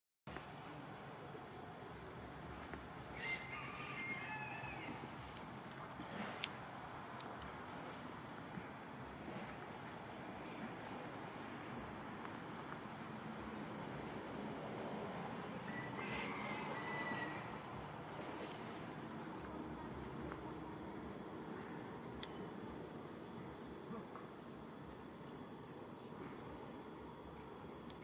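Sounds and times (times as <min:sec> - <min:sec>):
insects droning: 0:00.3 - 0:28.0.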